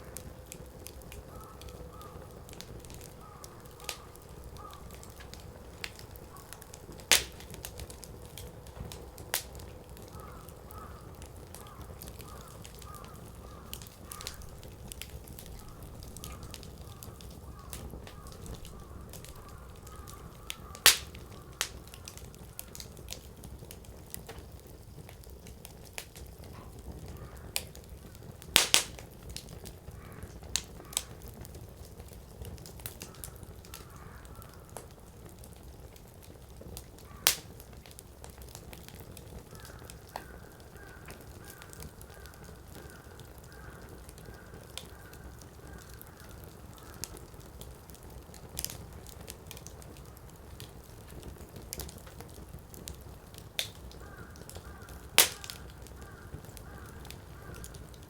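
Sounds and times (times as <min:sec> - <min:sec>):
low rush of flames: 0:00.0 - 0:58.0
wood fire crackling and popping: 0:00.0 - 0:58.0.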